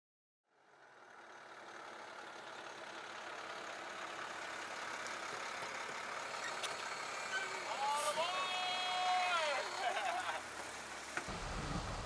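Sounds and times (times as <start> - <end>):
bus engine idling: 0.5 - 12.0.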